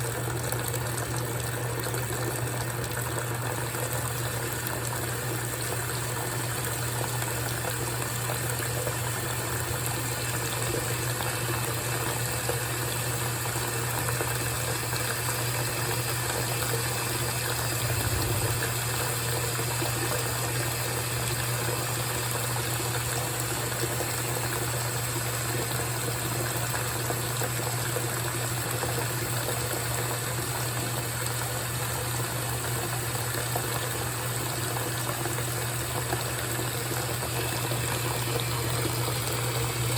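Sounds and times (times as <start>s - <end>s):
water running and splashing: 0.0s - 31.5s, 32.1s - 39.9s
washing machine hum: 0.0s - 39.9s.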